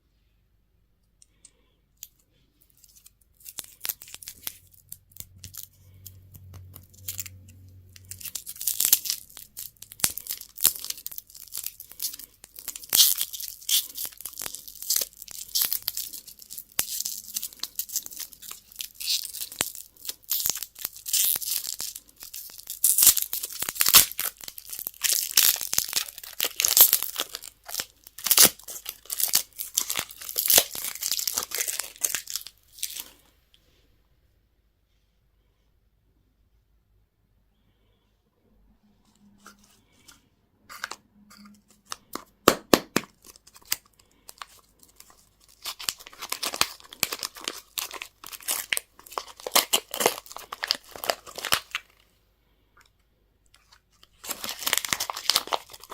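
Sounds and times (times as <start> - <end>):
candy wrapper crinkling and tearing: 1.2 - 33.3, 39.4 - 52.0, 52.8 - 55.9.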